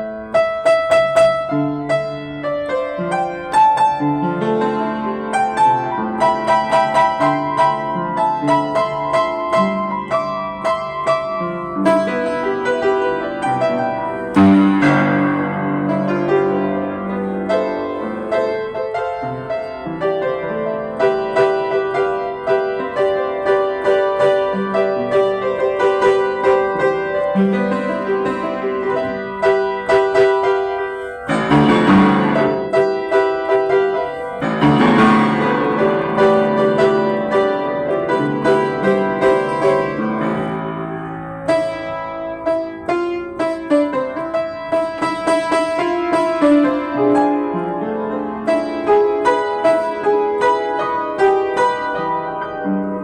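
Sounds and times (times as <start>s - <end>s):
solo upright piano melody: 0.0s - 53.0s.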